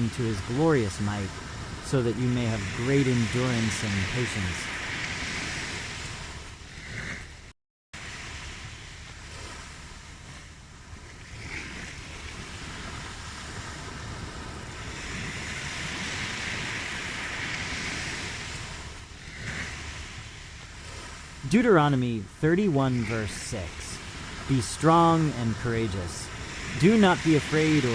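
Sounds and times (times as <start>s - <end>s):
ocean waves washing in: 0.0s - 27.9s.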